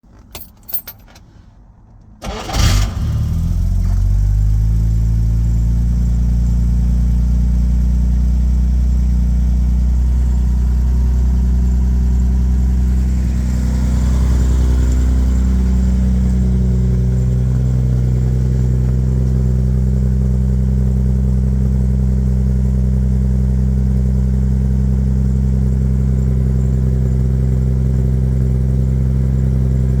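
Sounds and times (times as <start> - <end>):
car engine cranking and idling: 0.0 - 30.0.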